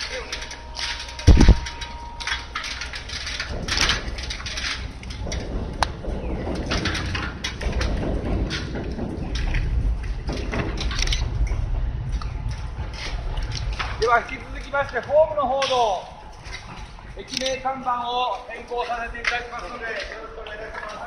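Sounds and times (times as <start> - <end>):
low rumble: 0.0 - 17.2
metal stepladders knocking and rattling: 0.0 - 21.0.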